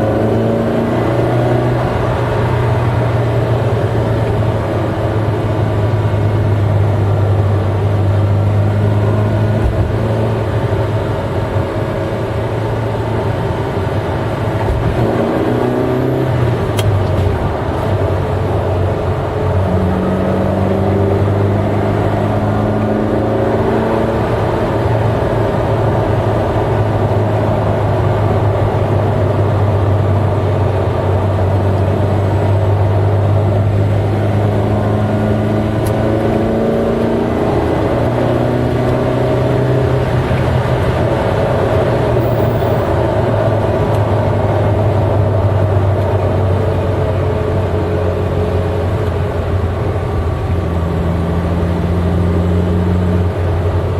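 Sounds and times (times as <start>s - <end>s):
car engine droning: 0.0s - 53.9s.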